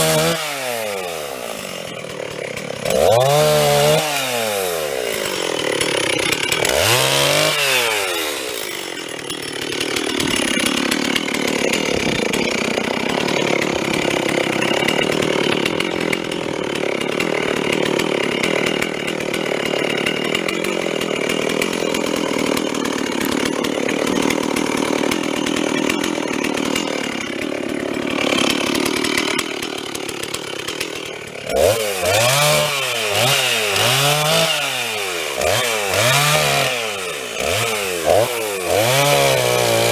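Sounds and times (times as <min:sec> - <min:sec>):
chainsaw cutting through wood: 0:00.0 - 0:39.9
chainsaw throttle revving: 0:00.0 - 0:39.9.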